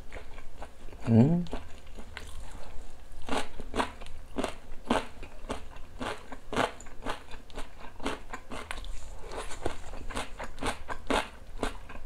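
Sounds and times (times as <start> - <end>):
crunchy pickle being chewed: 0.0 - 12.0.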